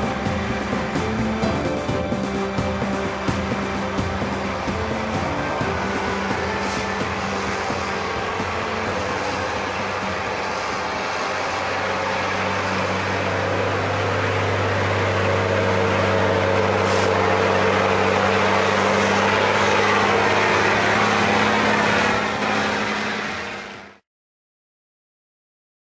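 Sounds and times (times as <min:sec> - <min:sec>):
truck diesel engine under load: 0:00.0 - 0:24.0.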